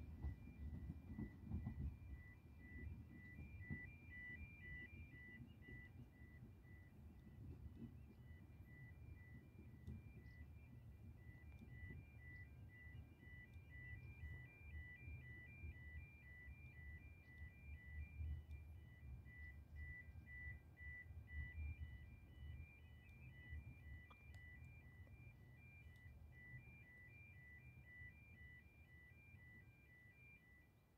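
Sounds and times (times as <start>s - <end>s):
level crossing warning alarm: 0.0s - 30.9s.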